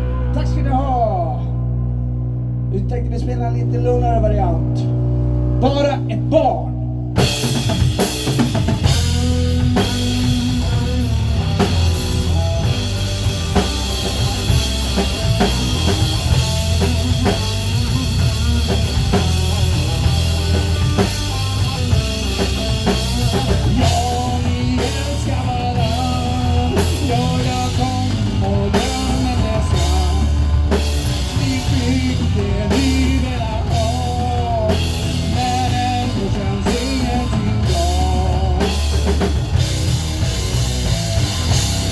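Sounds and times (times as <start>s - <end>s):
rock band music: 0.0s - 41.9s.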